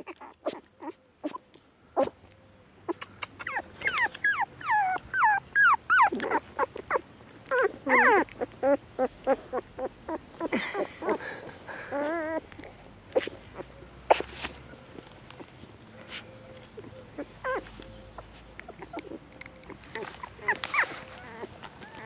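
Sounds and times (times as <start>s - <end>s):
puppies whining: 0.0s - 1.4s, 2.0s - 2.3s, 2.9s - 22.0s
puppies yelping: 0.0s - 1.4s, 2.0s - 2.2s, 2.9s - 22.0s.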